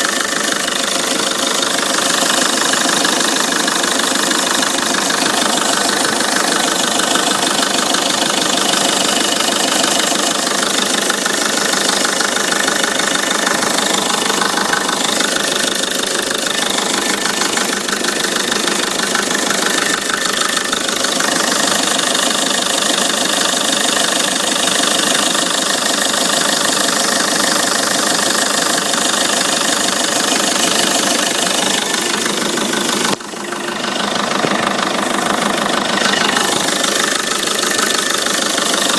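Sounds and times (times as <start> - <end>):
diesel engine idling clatter: 0.0 - 38.9.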